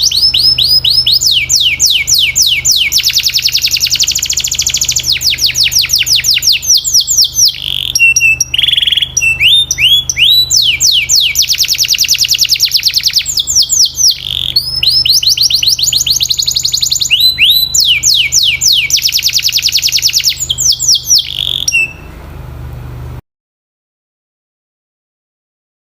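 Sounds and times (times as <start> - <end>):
canary singing trills: 0.0 - 22.2
low hum: 0.0 - 23.2.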